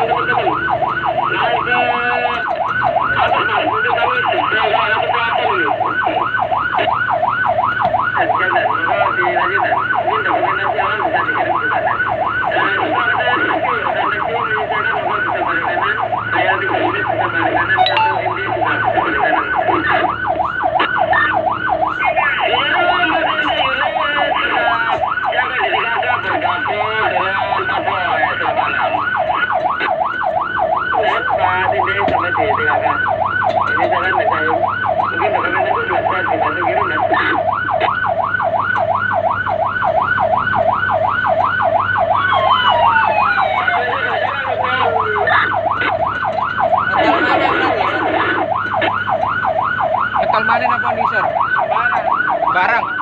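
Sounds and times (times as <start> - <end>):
fire truck siren yelping: 0.0 - 53.0
truck engine running: 0.0 - 53.0.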